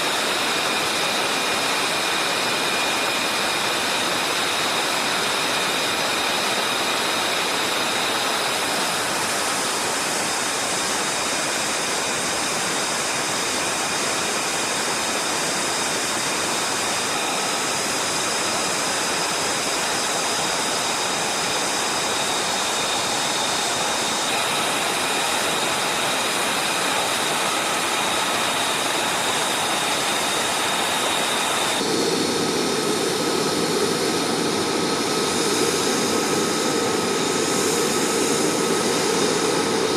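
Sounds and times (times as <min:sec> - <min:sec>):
jet engine rush and whine: 0:00.0 - 0:39.9.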